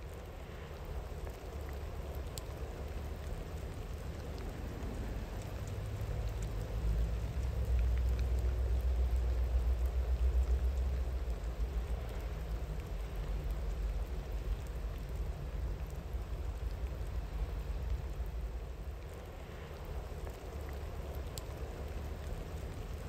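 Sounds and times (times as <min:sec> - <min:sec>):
steady rain with drips: 0:00.0 - 0:23.0.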